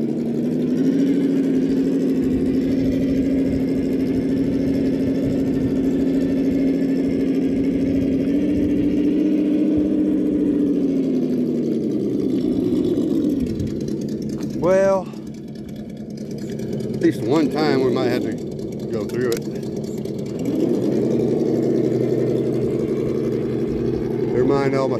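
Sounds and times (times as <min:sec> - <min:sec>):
electric motor humming: 0:00.0 - 0:24.9.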